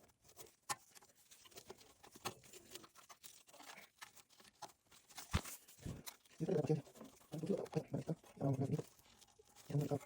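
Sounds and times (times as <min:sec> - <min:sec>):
faint clicks of small parts: 0:00.0 - 0:10.0.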